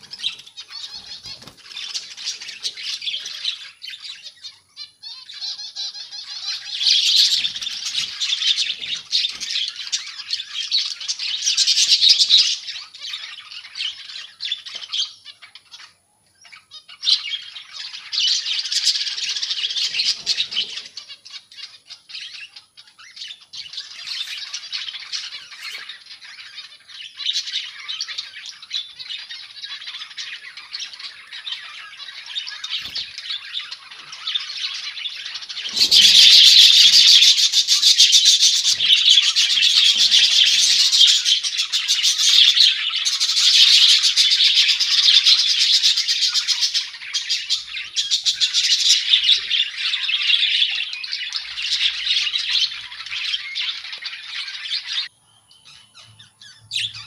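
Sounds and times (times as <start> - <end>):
small birds chirping and chattering: 0.0 - 57.0.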